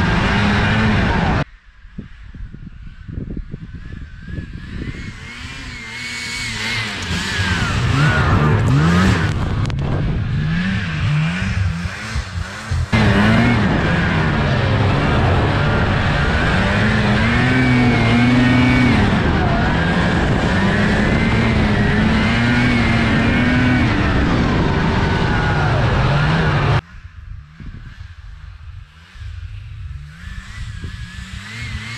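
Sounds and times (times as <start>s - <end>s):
snowmobile engine revving: 0.0s - 1.5s, 4.2s - 26.9s, 27.5s - 31.9s.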